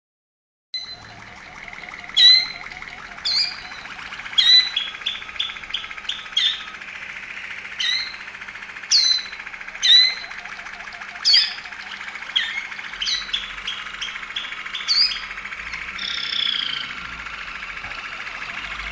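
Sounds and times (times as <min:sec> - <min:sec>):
canary trilling: 0:00.8 - 0:17.1
sharp chirps: 0:00.8 - 0:18.9.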